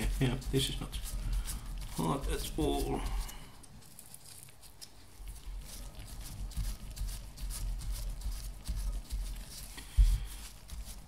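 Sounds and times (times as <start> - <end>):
sandpaper scratching metal: 0.0 - 3.5, 5.4 - 11.0.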